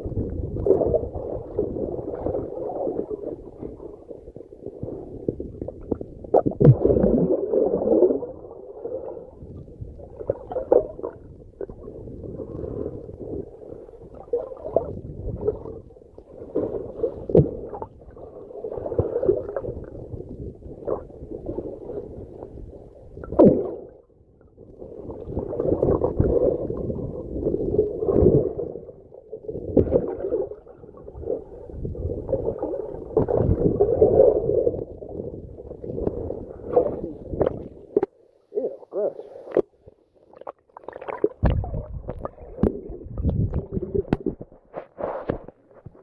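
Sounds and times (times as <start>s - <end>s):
underwater bubbles gurgling: 0.0s - 38.1s, 39.4s - 46.0s.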